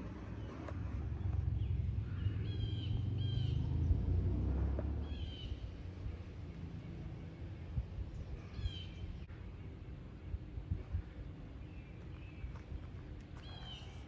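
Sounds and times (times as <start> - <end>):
birds chirping: 0.2 - 3.9, 5.0 - 14.0.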